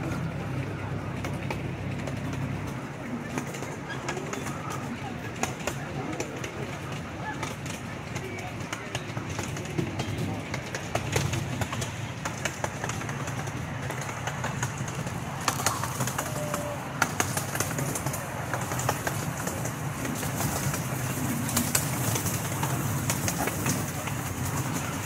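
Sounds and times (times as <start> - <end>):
small train rumbling on track: 0.0 - 25.0
track clicks and clacks: 0.0 - 25.0.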